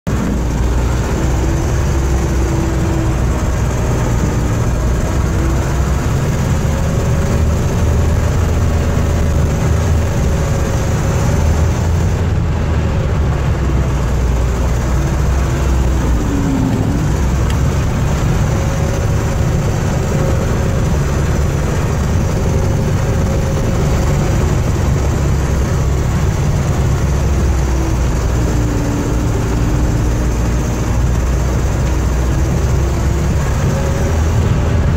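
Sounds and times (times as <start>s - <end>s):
snowcat engine droning: 0.1s - 34.9s.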